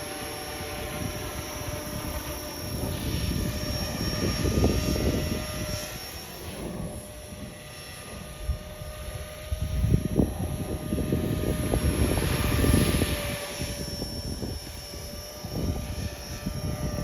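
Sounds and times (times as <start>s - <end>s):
rc helicopter motor whine: 0.0s - 17.0s
wind buffeting microphone: 0.0s - 17.0s.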